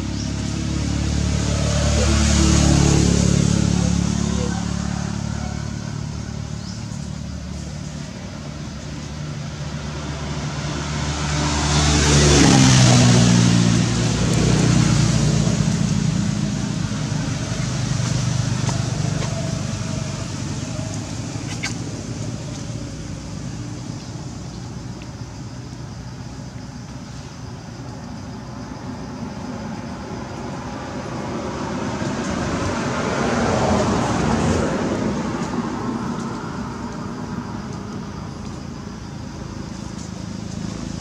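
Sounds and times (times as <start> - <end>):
vehicle engine rumbling: 0.0 - 41.0.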